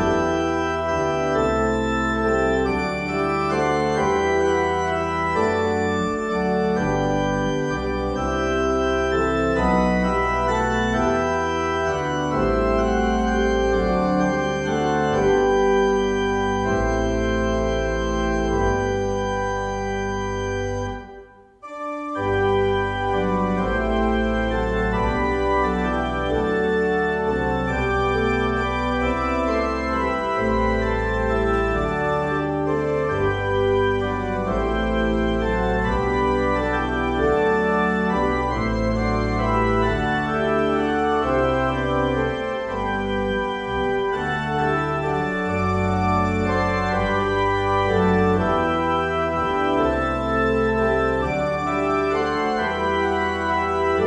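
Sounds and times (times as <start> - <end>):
organ playing a hymn: 0.0 - 54.0.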